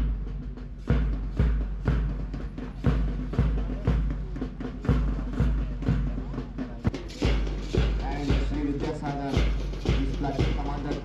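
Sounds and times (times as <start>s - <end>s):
march music with drum beat: 0.0s - 11.0s.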